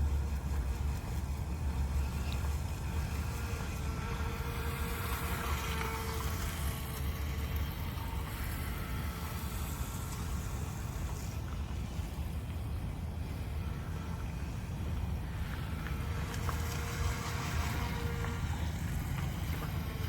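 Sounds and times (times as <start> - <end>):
electric motors whining: 0.0 - 20.0
wind rumble on microphone: 0.0 - 20.0.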